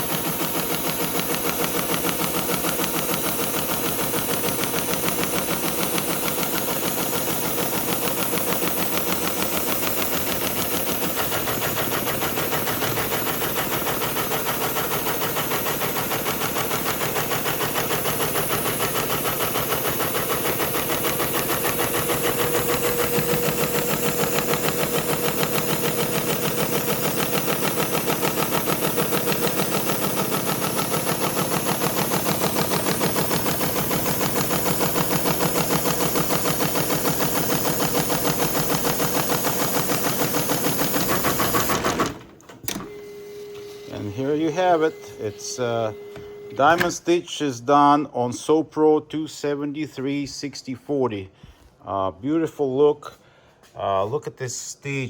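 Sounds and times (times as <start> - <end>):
sewing machine stitching: 0.0 - 47.0.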